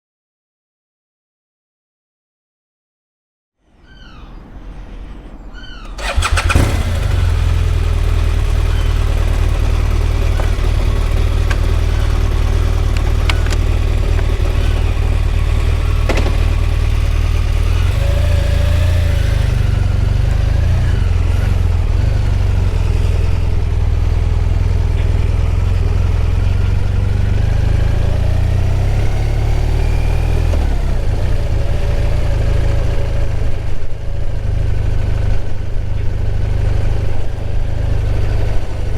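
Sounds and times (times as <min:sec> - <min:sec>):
motorcycle engine cranking and running: 0:06.0 - 0:38.9.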